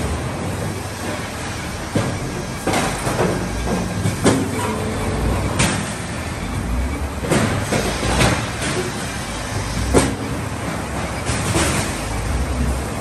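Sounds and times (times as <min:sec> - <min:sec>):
debarking machines running: 0:00.0 - 0:13.0.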